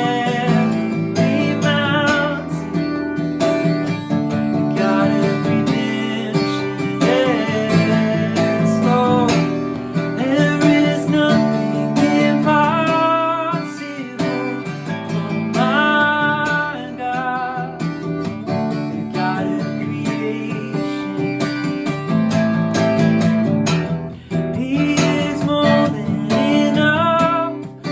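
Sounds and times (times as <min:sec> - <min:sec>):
man singing: 0:00.0 - 0:27.9
strummed acoustic guitar: 0:00.0 - 0:27.9.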